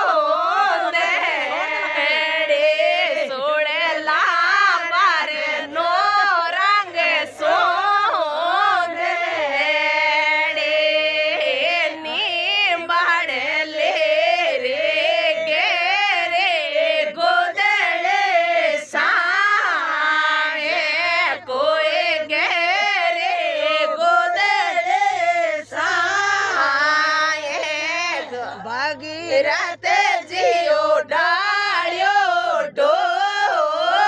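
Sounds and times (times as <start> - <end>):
woman singing folk song: 0.0 - 34.0.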